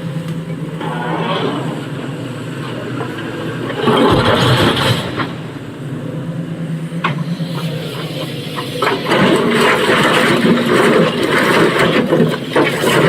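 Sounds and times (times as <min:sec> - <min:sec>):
heavy diesel machinery running: 0:00.0 - 0:13.0.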